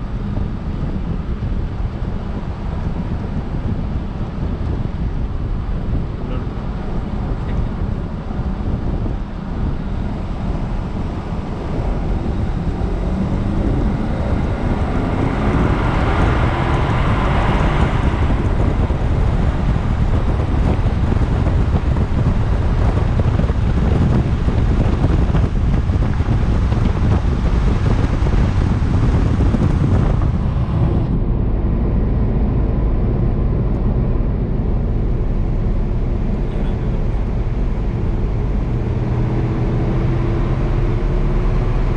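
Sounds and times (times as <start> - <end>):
car engine accelerating: 0.0 - 41.9
road and wind noise: 0.0 - 41.9.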